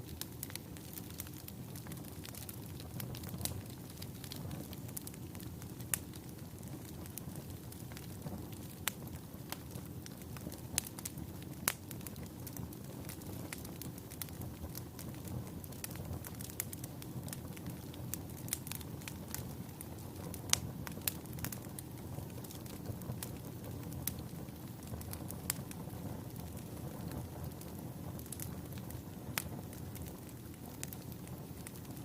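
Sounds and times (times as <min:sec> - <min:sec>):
logs crackling and popping: 0:00.0 - 0:32.0
low rush of flames: 0:00.0 - 0:32.0.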